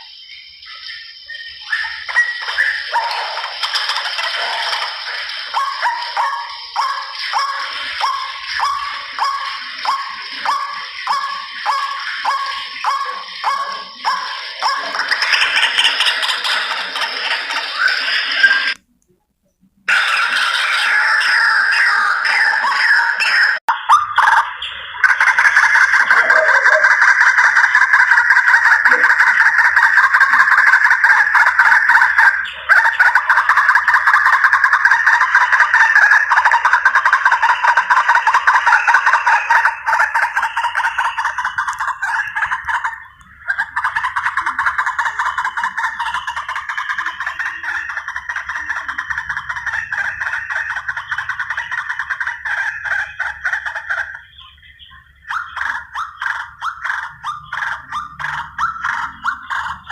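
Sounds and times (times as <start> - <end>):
waterhen harsh croaking calls: 0.0 - 18.8, 19.9 - 59.9.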